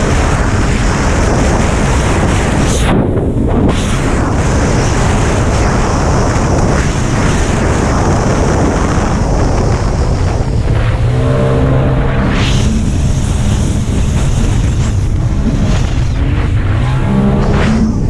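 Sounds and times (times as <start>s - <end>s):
jet ski engine: 0.0s - 18.0s
wind buffeting microphone: 0.0s - 18.0s.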